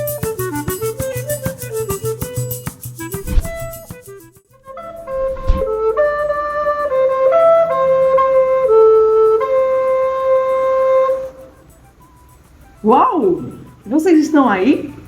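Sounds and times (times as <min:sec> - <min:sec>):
flute-like wind instrument melody: 0:00.0 - 0:13.9.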